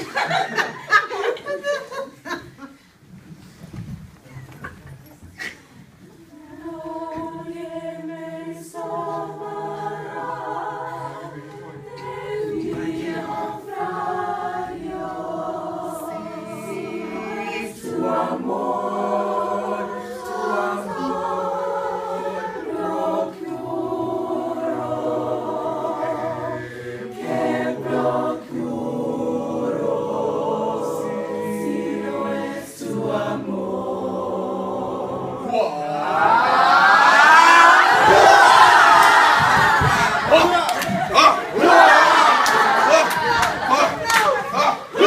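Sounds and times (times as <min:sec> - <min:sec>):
choir singing a cappella: 0:00.0 - 0:01.4, 0:06.2 - 0:45.0.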